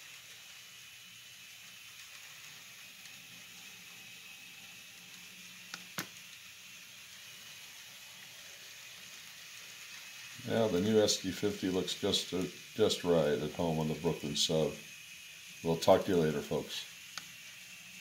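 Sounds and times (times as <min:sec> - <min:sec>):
model trains running: 0:00.0 - 0:18.0.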